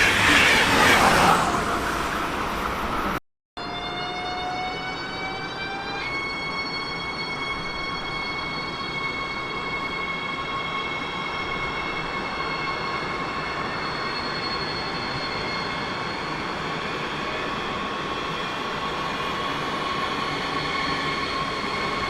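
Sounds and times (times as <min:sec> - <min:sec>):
high-pitched train whine: 0:00.0 - 0:22.0.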